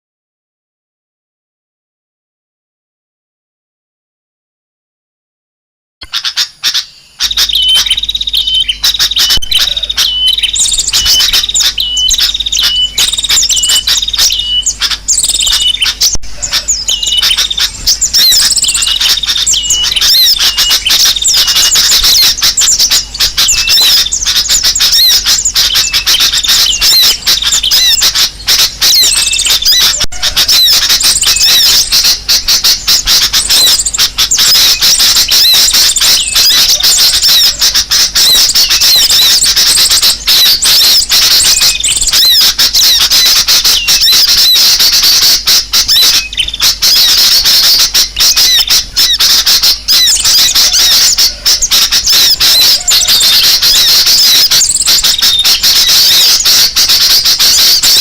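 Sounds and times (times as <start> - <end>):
small birds chirping chorus: 6.0 - 58.0.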